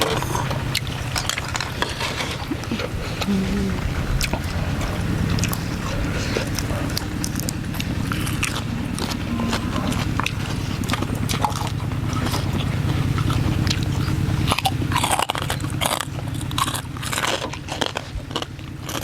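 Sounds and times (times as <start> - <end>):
crunching and chewing crisp food: 0.0 - 19.0
low steady hum: 0.0 - 19.0.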